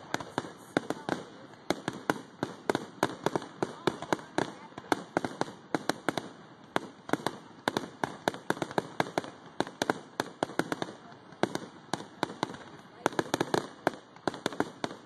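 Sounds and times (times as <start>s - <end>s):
fireworks bangs and pops: 0.0s - 15.0s.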